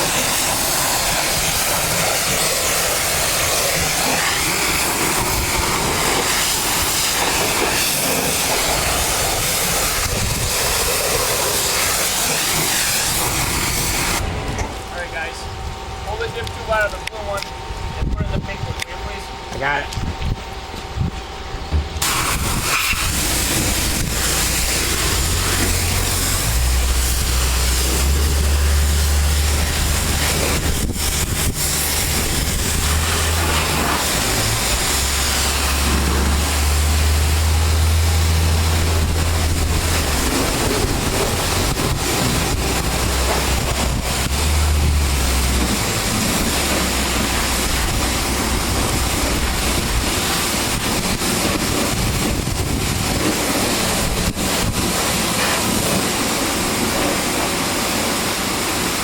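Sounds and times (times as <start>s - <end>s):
pressure washer spraying: 0.0s - 14.4s, 22.0s - 59.0s
strong low hum: 0.0s - 55.1s.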